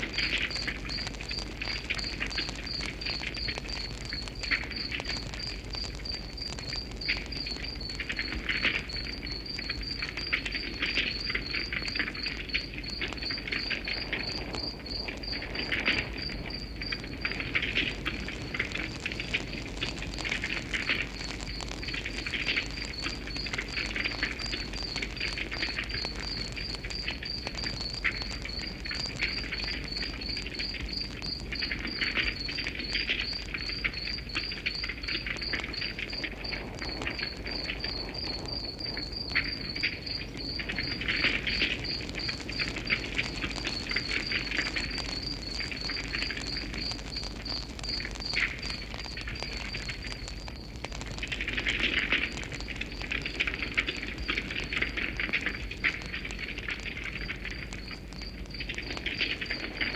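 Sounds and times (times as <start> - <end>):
campfire crackling and popping: 0.0 - 59.9
cricket chirping: 0.0 - 59.9.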